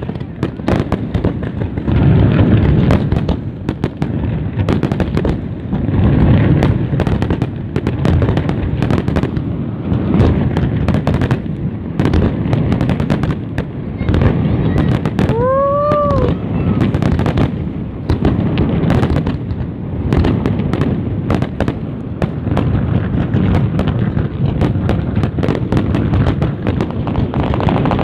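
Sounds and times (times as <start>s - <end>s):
firework bangs and crackles: 0.0s - 28.0s.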